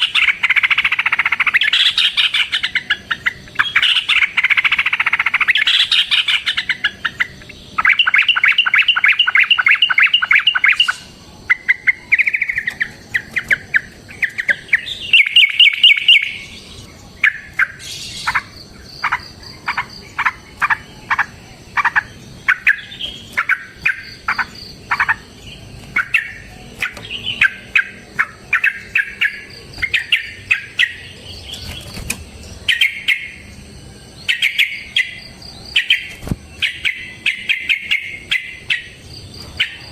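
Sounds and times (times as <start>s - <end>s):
bird singing trills and chirps: 0.0s - 39.9s.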